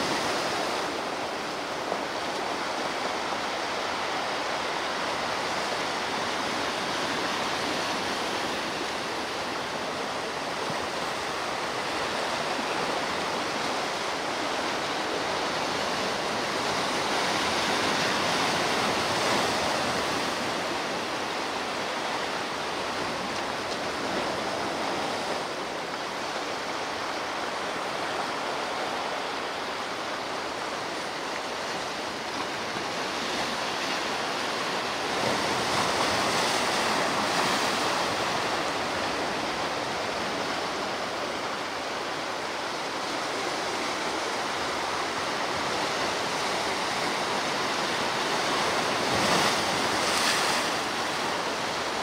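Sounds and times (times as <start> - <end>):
ocean surf washing ashore: 0.0 - 52.0.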